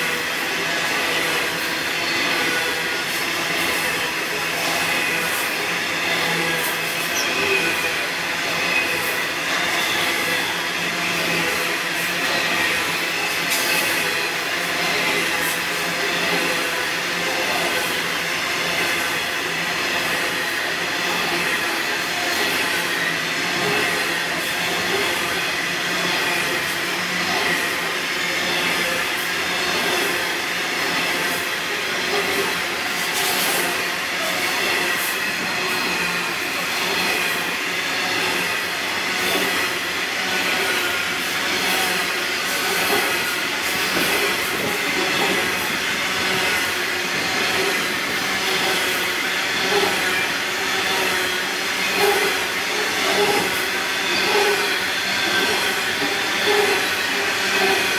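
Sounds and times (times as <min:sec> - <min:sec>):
freight wagons rolling on rails: 0:00.0 - 0:57.9.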